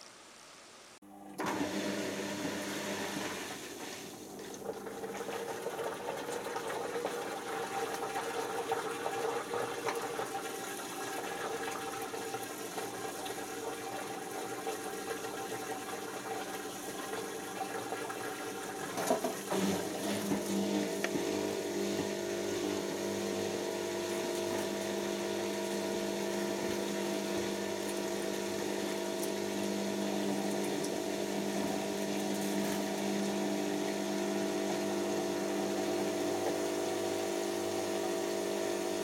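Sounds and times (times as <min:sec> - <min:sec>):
washing machine spinning hum: 0:00.1 - 0:39.0.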